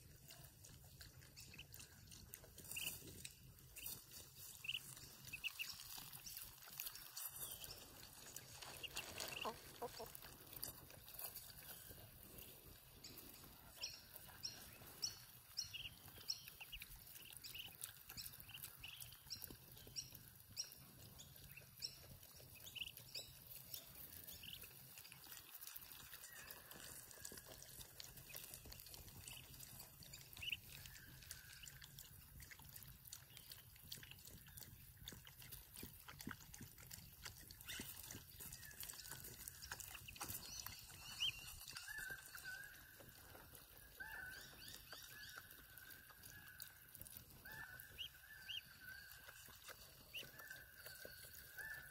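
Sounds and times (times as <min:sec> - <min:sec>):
ducklings peeping: 0:00.0 - 0:51.9.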